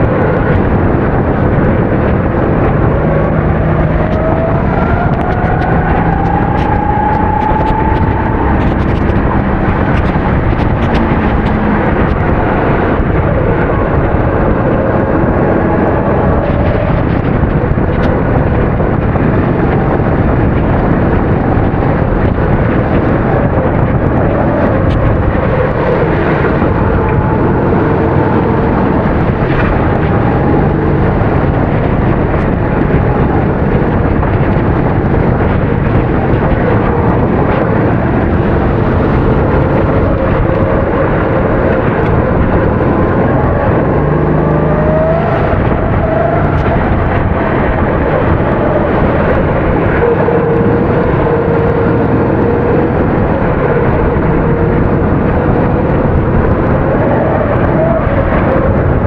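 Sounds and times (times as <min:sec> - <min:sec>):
constant rushing noise: 0:00.0 - 0:59.0
kart engine running hard: 0:00.0 - 0:59.0.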